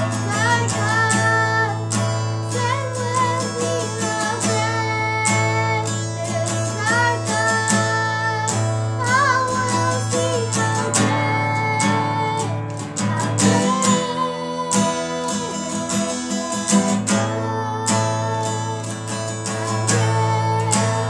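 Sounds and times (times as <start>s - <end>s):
acoustic guitar strumming: 0.0s - 21.0s
child singing: 0.0s - 21.0s.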